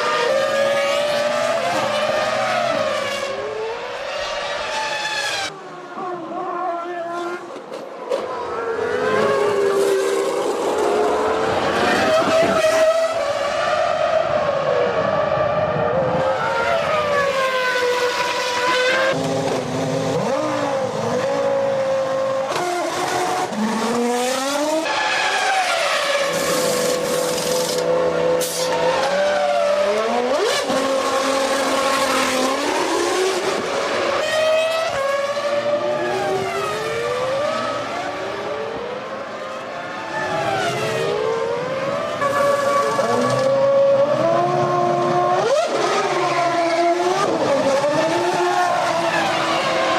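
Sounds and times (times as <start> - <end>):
racing car engines at high revs: 8.7 - 49.9.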